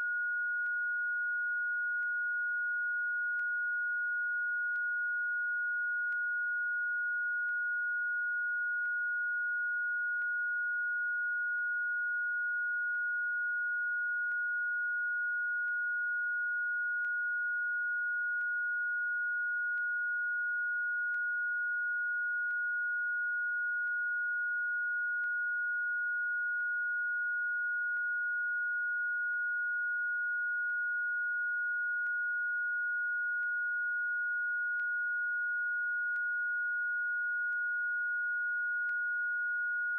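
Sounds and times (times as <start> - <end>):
high-pitched sine tone: 0.0 - 39.9.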